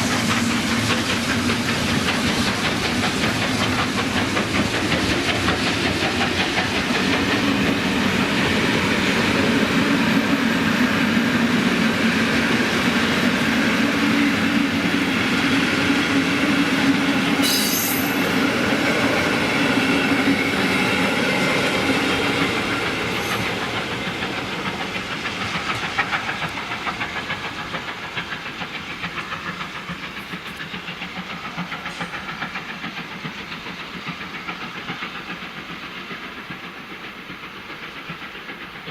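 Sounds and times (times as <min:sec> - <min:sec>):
steam train rolling past: 0:00.0 - 0:38.9.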